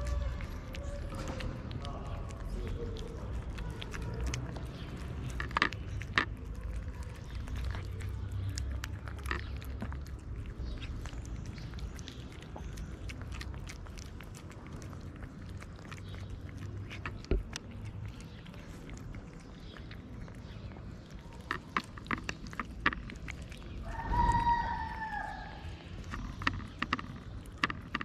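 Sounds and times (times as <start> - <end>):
cats chewing and lapping food: 0.0 - 28.0.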